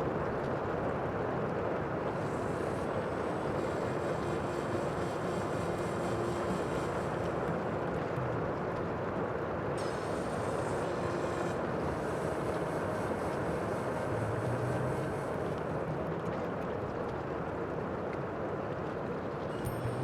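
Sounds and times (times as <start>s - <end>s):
rush of sea water: 0.0s - 19.6s.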